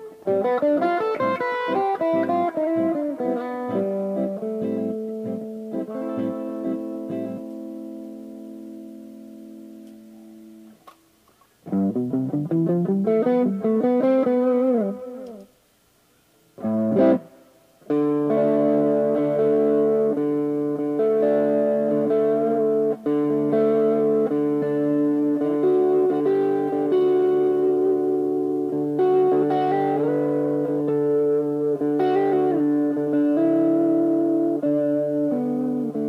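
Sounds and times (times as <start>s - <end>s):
electric guitar playing: 0.0s - 15.6s, 16.5s - 36.0s.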